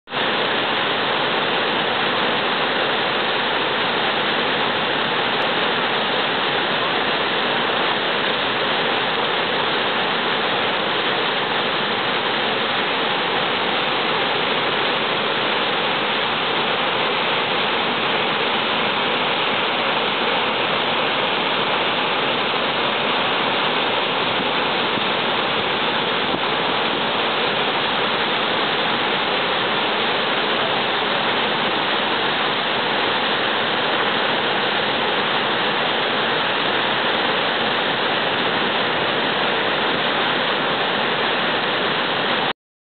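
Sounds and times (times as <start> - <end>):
waterfall rushing: 0.1 - 42.5.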